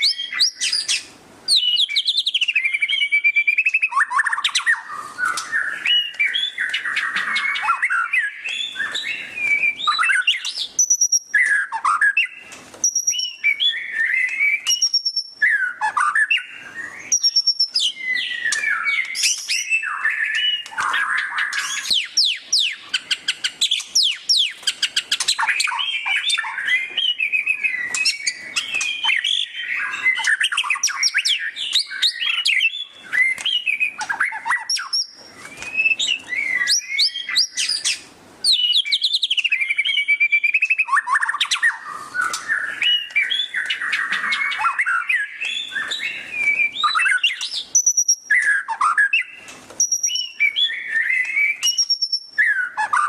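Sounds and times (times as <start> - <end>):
songbird singing trills: 0.0 - 53.0.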